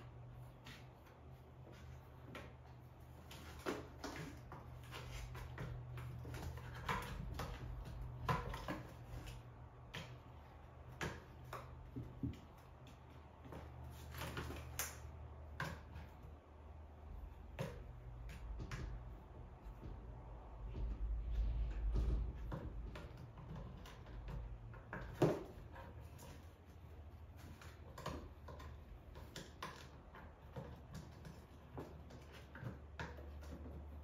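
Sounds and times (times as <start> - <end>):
faint low hum: 0.0 - 34.0
kittens batting cardboard box: 0.0 - 34.0.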